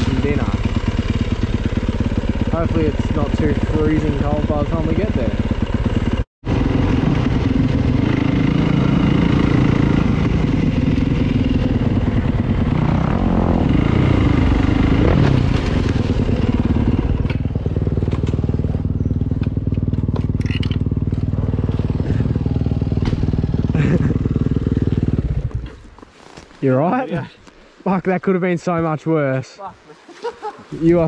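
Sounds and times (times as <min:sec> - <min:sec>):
dirt bike engine running: 0:00.0 - 0:25.9.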